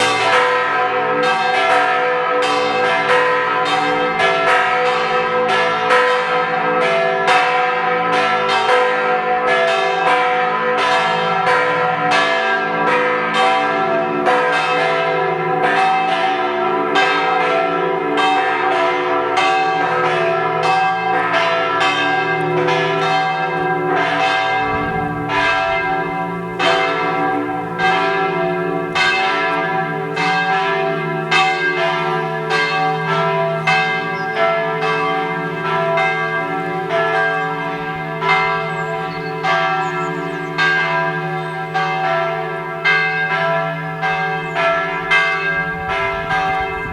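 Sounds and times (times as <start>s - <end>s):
church bell ringing: 0.0s - 46.9s.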